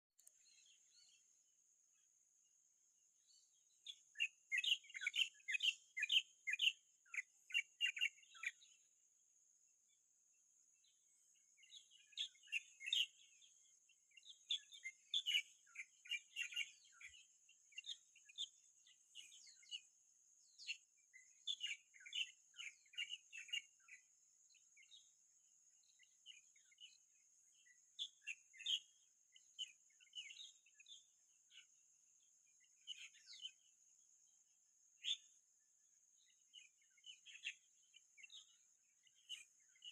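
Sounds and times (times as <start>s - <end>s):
birds chirping: 0.0s - 35.5s, 36.1s - 39.9s.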